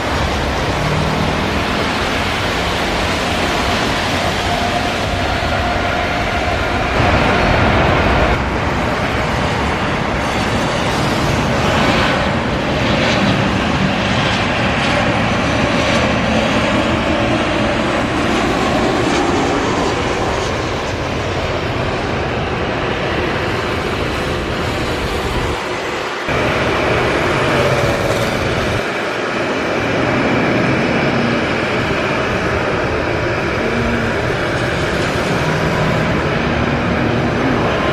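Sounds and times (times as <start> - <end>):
jet airliner engines rushing: 0.0 - 37.9.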